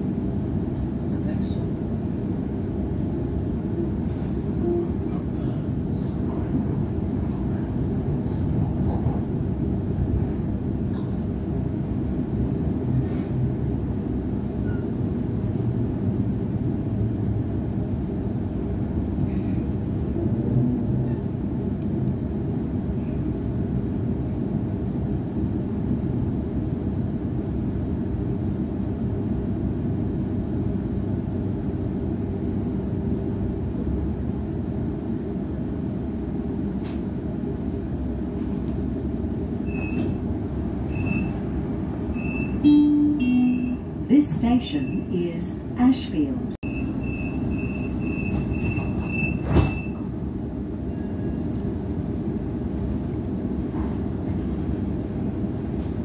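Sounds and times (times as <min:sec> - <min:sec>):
electric train rumbling: 0:00.0 - 0:56.0.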